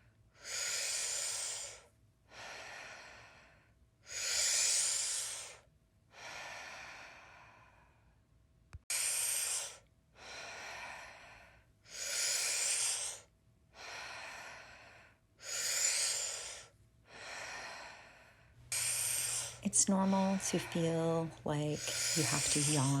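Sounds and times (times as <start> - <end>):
deep rhythmic breathing: 0.0 - 8.2, 8.9 - 23.0.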